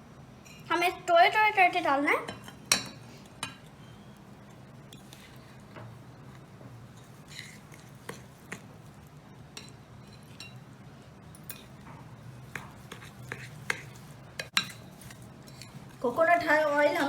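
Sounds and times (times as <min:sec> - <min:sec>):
spoon stirring stiff mixture: 0:02.3 - 0:10.6, 0:11.3 - 0:17.0.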